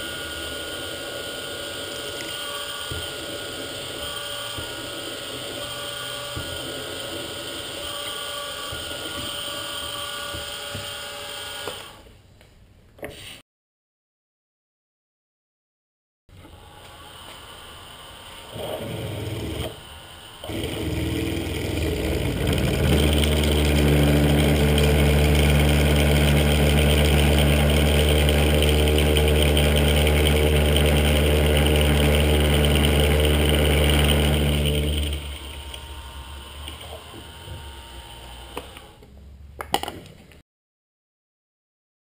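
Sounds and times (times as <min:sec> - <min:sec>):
milling machine drilling steel: 0:00.0 - 0:11.9, 0:16.6 - 0:38.9.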